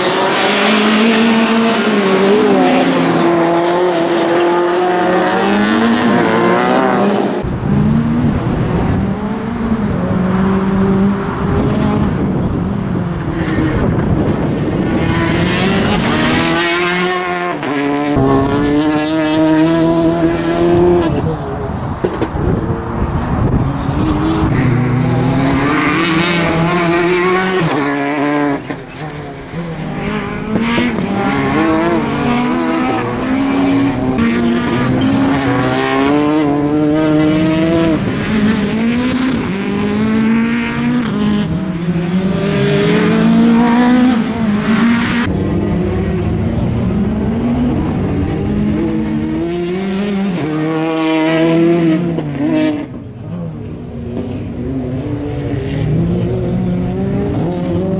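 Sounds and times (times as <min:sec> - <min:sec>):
rally car engine revving: 0:00.0 - 0:57.9.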